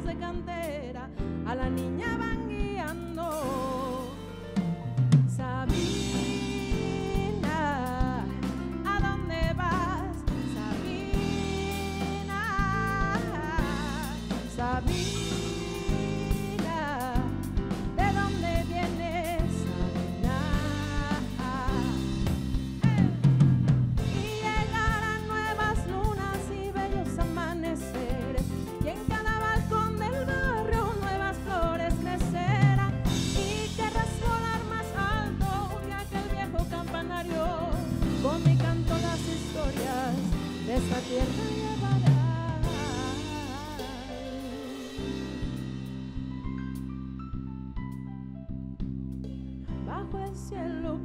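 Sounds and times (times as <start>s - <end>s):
woman singing: 0.0s - 4.4s, 5.1s - 23.3s, 24.0s - 45.4s, 49.7s - 51.0s
drum kit: 1.5s - 50.5s.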